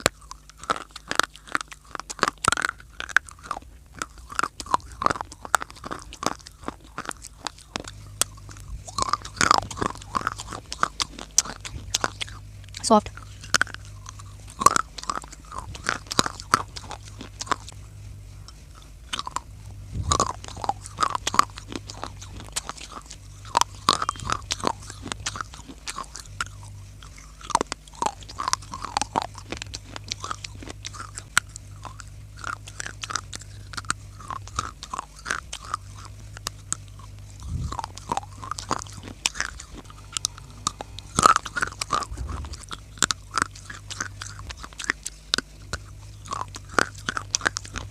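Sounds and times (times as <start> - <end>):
faint low hum: 0.0 - 47.9.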